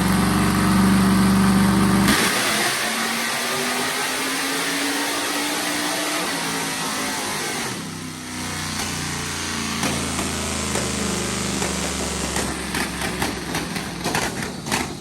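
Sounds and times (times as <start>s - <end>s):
car engine revving and idling: 0.0s - 14.8s.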